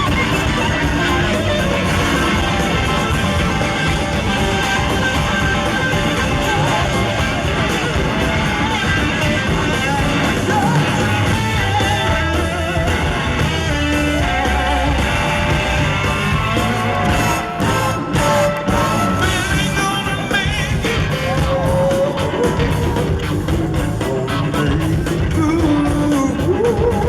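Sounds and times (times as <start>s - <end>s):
electric guitar lead: 0.0s - 27.0s
rock-soul band playing: 0.0s - 27.0s.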